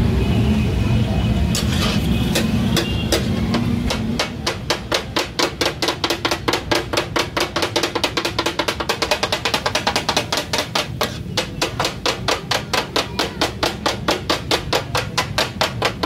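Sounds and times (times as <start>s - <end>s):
metal blades chopping on steel griddle: 1.6s - 16.0s.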